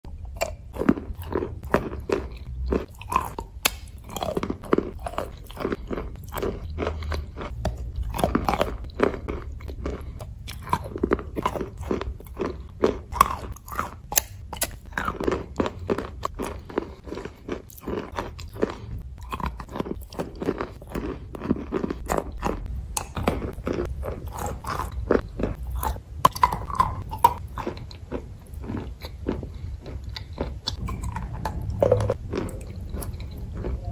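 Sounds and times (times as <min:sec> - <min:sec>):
chewing: 0:00.1 - 0:33.9.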